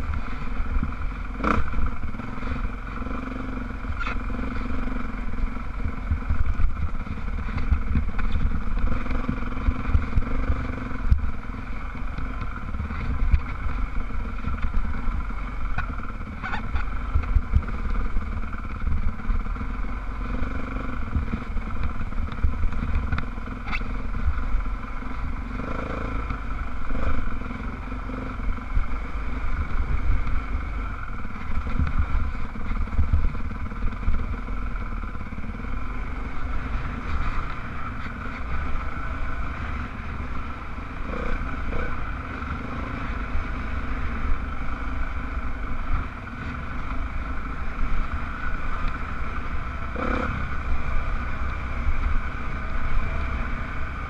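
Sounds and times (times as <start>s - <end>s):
dirt bike engine running: 0.0s - 54.0s
low buffeting rumble: 0.0s - 54.0s.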